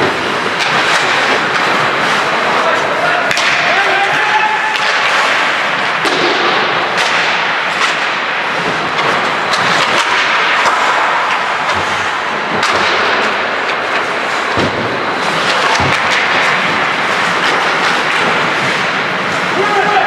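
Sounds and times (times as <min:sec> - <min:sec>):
hockey sticks striking puck: 0:00.0 - 0:20.0
skates cutting ice: 0:00.0 - 0:20.0.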